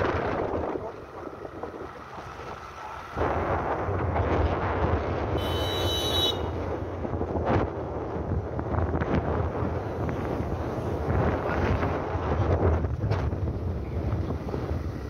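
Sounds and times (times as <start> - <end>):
wind buffeting microphone: 0.0 - 5.5, 6.4 - 15.0
motorcycle engine rumble: 0.0 - 15.0.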